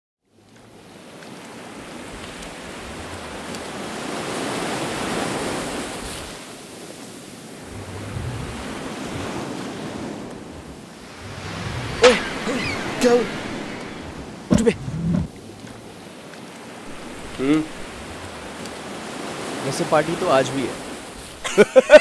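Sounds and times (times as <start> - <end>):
ocean surf on a beach: 0.3 - 22.0
low wind rumble: 1.6 - 6.4, 7.3 - 22.0.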